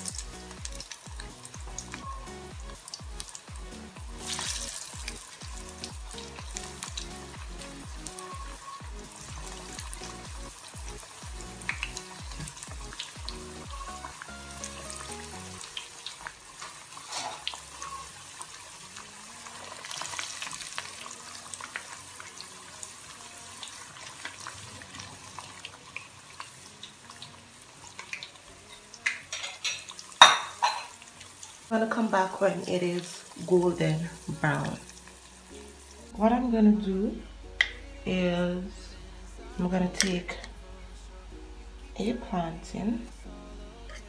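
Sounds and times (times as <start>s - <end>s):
food deep-frying in oil: 0.0s - 37.0s.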